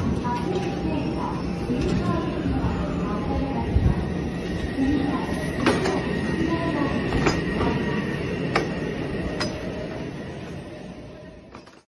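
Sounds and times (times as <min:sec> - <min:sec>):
thin high train hum: 0:00.0 - 0:11.8.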